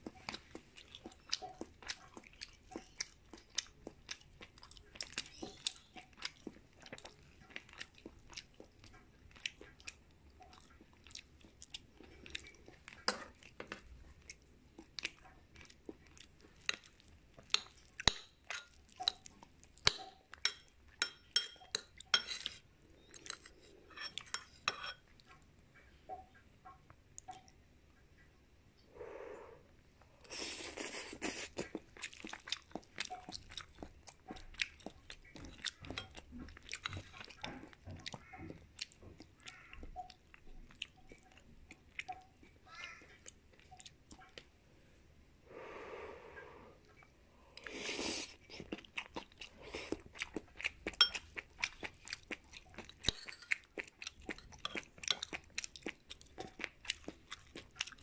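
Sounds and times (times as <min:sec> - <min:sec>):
close chewing: 0:00.0 - 0:25.5, 0:30.1 - 0:44.6, 0:46.8 - 0:58.0.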